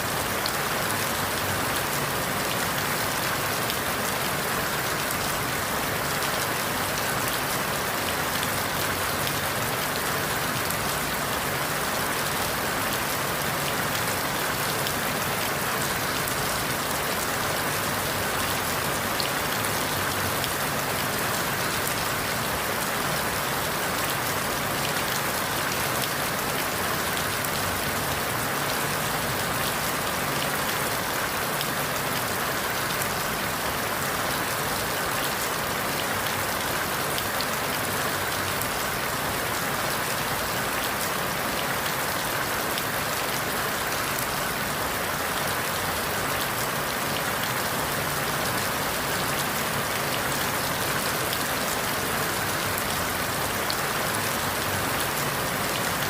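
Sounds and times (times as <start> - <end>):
rain falling through leaves: 0.0 - 56.0.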